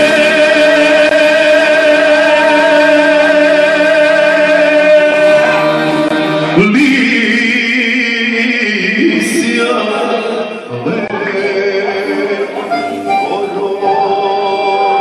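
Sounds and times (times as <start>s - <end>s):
accordion accompaniment: 0.0s - 8.2s, 10.0s - 15.0s
man singing with vibrato: 0.0s - 15.0s.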